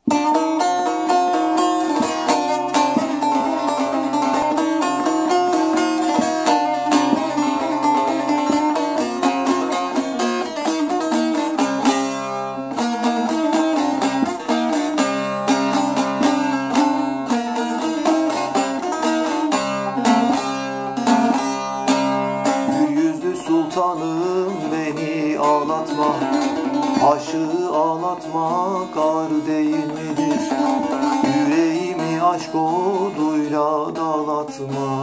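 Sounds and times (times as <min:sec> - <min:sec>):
plucked long-necked lute melody: 0:00.0 - 0:35.0.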